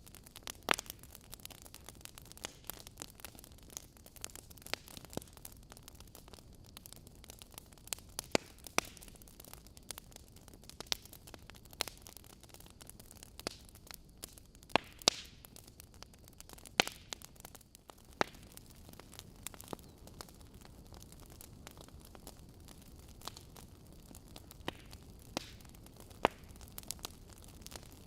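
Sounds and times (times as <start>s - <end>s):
fire hissing: 0.0s - 28.0s
fire popping and snapping: 0.0s - 28.0s.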